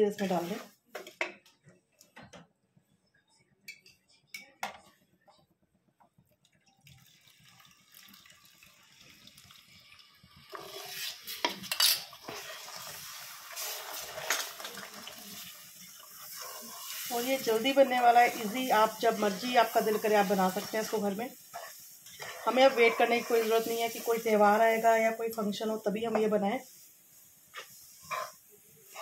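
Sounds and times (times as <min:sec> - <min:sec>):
milk sizzling in hot pan: 0:00.0 - 0:00.8, 0:06.6 - 0:29.0.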